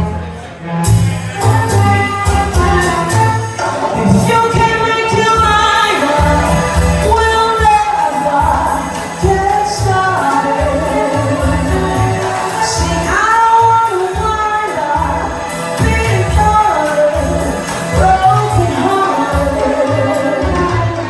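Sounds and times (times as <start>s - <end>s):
song with singing: 0.0s - 21.0s.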